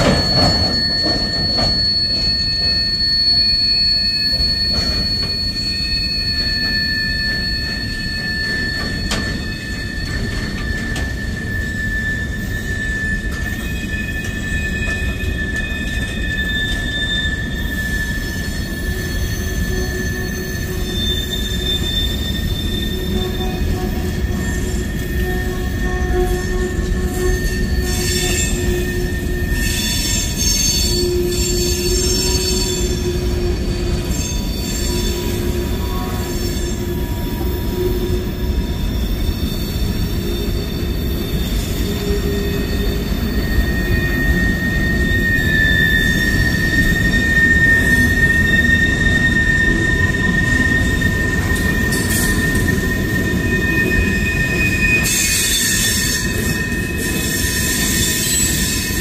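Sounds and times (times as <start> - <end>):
high-pitched wheel squeal: 0.0 - 59.0
steel wheels rumbling on rail: 0.0 - 59.0.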